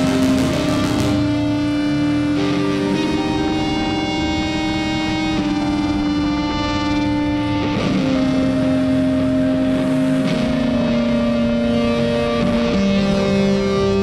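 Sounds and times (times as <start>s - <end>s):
guitar playing long held notes: 0.0s - 14.0s.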